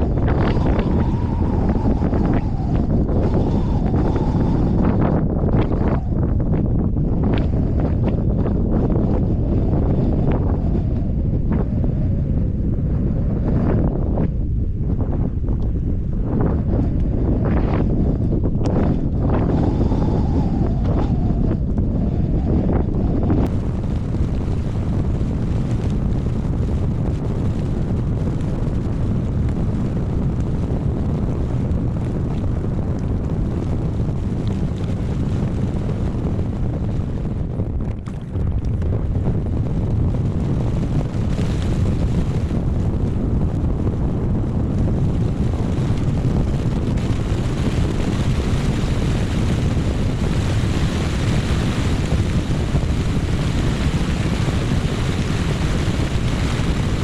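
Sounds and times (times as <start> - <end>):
gusty wind buffeting microphone: 0.0 - 57.0.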